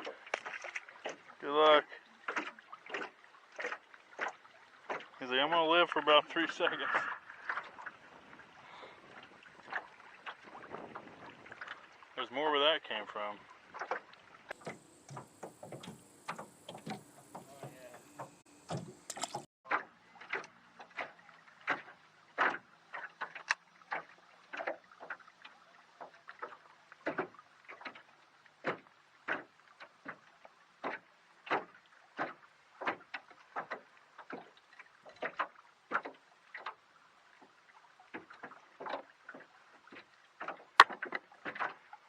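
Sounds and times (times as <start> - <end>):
water splashing against boat: 0.0 - 42.0.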